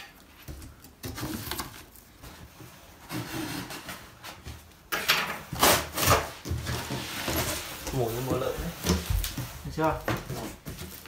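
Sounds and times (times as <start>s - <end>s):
cardboard and plastic rustling: 0.0s - 11.0s.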